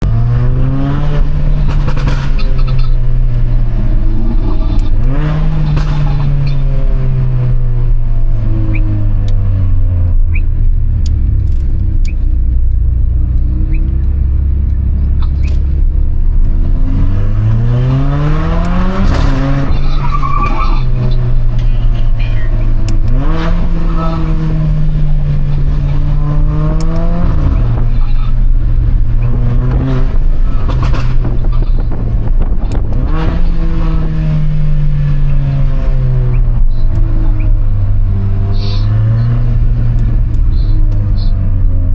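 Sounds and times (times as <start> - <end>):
car engine revving: 0.0 - 41.9
exhaust pops and crackles: 1.1 - 6.7, 10.1 - 16.8, 18.4 - 35.4, 36.1 - 41.9.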